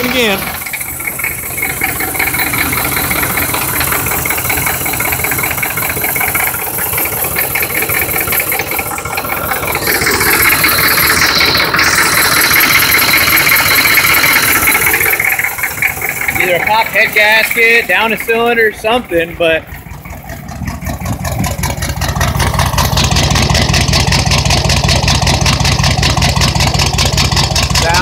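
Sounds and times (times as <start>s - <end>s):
diesel engine idling with clatter: 0.0s - 28.0s.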